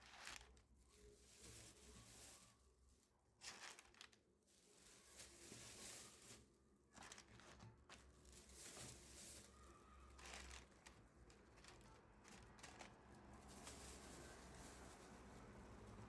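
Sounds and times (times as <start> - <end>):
faint rustling: 0.0 - 16.0.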